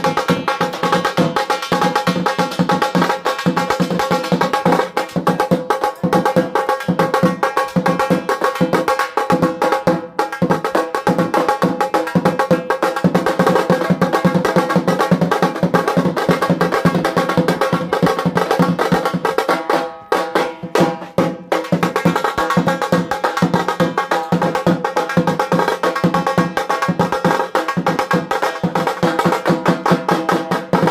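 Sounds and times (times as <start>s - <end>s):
fast dense percussion: 0.0s - 30.9s.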